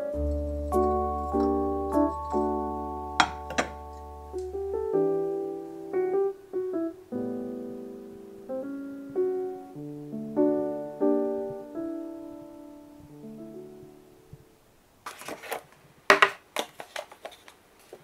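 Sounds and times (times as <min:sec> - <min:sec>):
gentle keyboard melody: 0:00.0 - 0:14.6.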